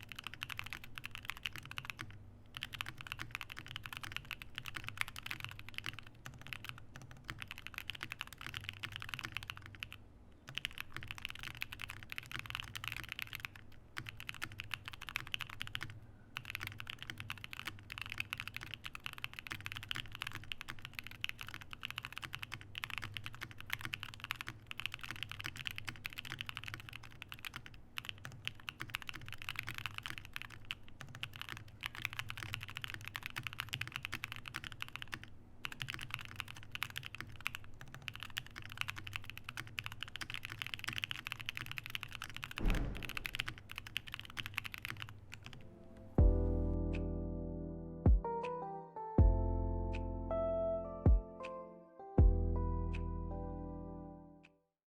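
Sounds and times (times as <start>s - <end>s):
fast typing on keyboard: 0.0s - 45.6s.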